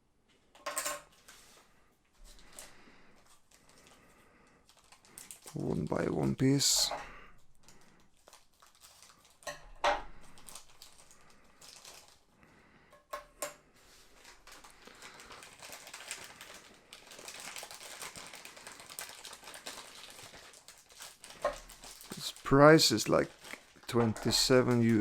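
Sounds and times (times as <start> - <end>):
plastic packaging crinkling: 1.1 - 12.4, 13.8 - 25.0.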